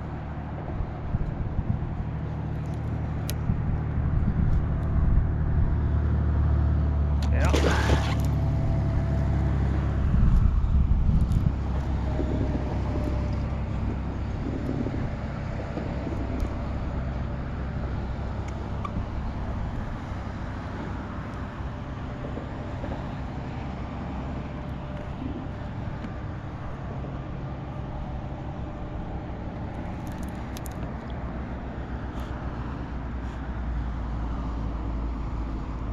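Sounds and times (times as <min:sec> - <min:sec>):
low motor rumble: 0:00.0 - 0:35.9.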